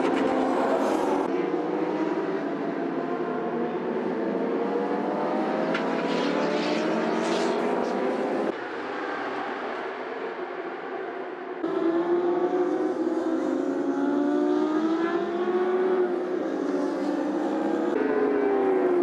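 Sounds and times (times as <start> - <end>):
racing motorcycle engines revving: 0.0 - 10.4, 11.6 - 19.0.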